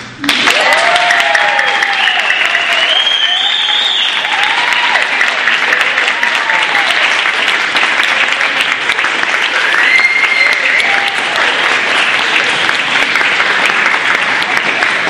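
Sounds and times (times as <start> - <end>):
people clapping: 0.0 - 15.0
people cheering: 0.2 - 15.0.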